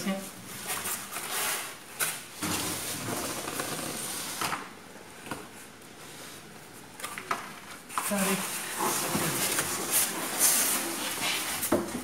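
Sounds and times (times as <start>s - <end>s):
plastic wrap and cardboard rustling: 0.0s - 4.7s, 5.4s - 12.0s.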